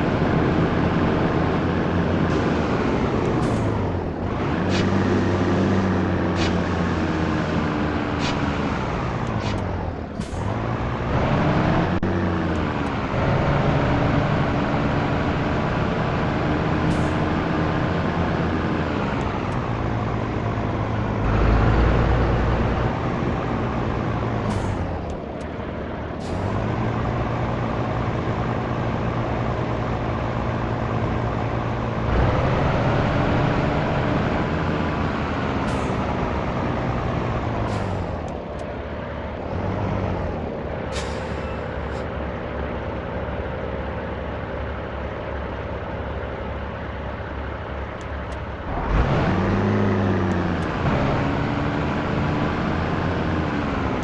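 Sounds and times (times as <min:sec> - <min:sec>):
truck diesel engine changing gears: 0:00.0 - 0:54.0.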